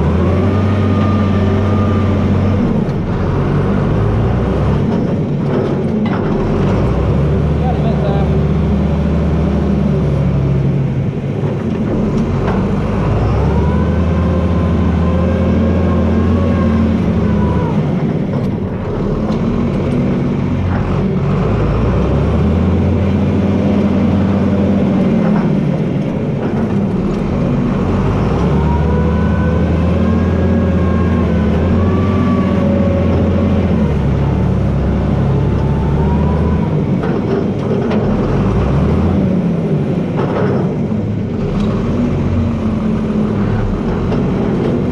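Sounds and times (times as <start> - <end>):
drivetrain whine: 0.0 - 44.9
tractor diesel engine running: 0.0 - 44.9.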